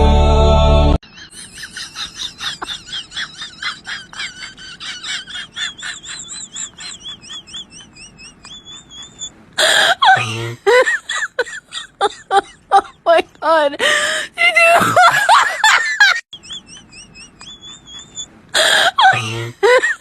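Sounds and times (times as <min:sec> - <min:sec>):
high-pitched squeaky laughter: 0:01.1 - 0:13.4, 0:14.6 - 0:20.0.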